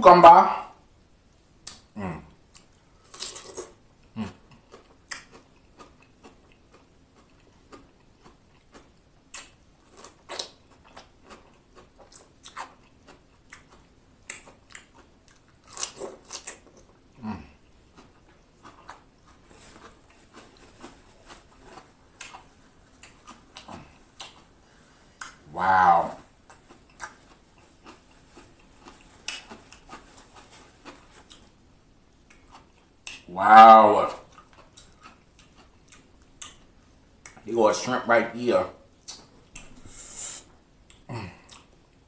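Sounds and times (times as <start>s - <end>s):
crunching and wet chewing: 2.5s - 33.3s, 34.1s - 37.5s, 40.8s - 42.0s.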